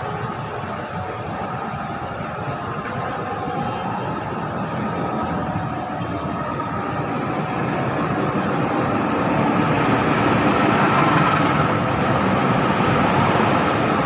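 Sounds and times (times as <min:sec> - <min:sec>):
passenger train rumbling past: 0:00.0 - 0:14.0.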